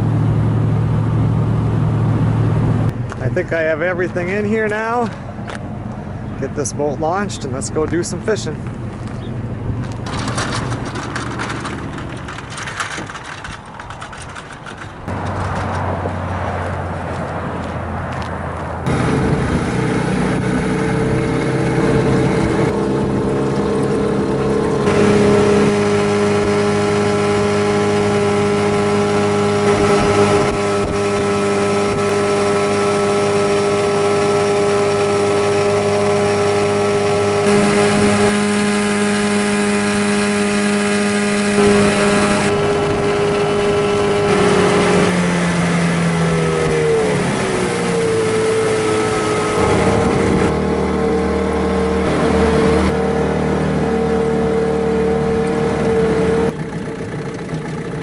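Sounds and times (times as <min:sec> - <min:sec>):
outboard motor running: 0:08.2 - 0:16.4, 0:18.9 - 0:58.0.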